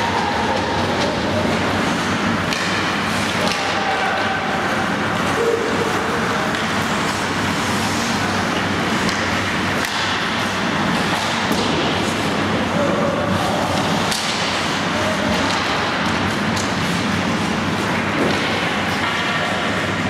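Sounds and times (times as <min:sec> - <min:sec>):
hockey sticks and puck clacking: 0:00.0 - 0:20.0
ice rink background rushing: 0:00.0 - 0:20.0.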